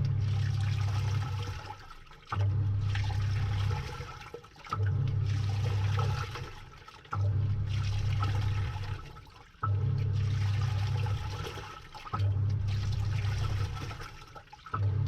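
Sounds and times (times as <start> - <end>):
washing machine motor humming: 0.0 - 15.0
water sloshing: 0.0 - 15.0.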